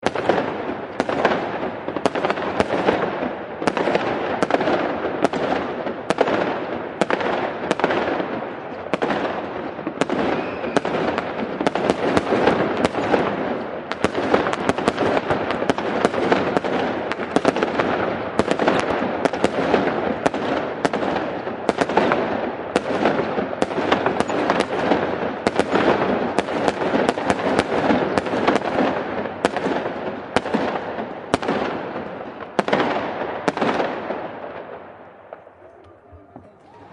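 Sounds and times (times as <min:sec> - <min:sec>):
fireworks bangs and crackles: 0:00.0 - 0:36.9.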